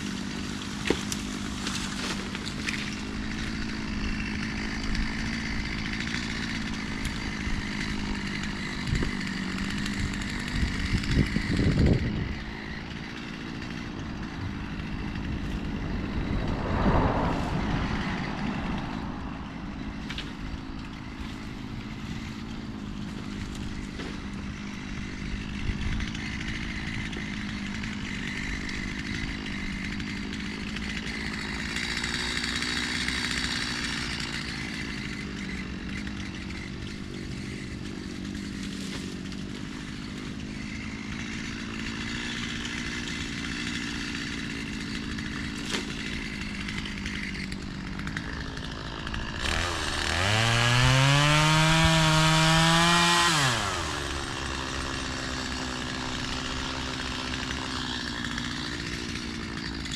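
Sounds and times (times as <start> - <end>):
chainsaw engine idling and revving: 0.0 - 59.9.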